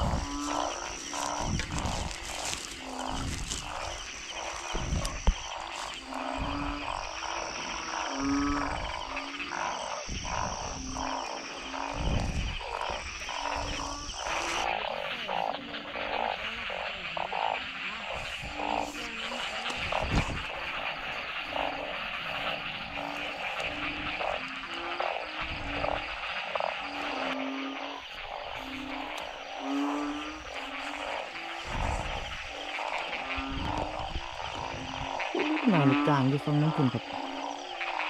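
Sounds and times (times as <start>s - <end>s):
frogs croaking: 0.0s - 38.0s
low frog notes: 0.0s - 38.0s.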